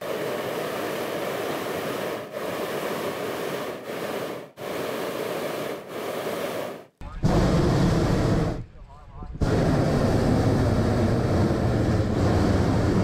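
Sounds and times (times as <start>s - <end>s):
propane burner roaring: 0.0s - 8.7s, 9.3s - 13.0s.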